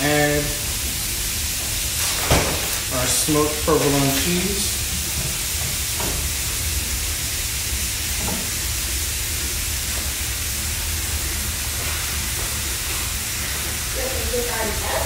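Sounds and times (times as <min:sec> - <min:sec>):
patties sizzling on a griddle: 0:00.0 - 0:15.0.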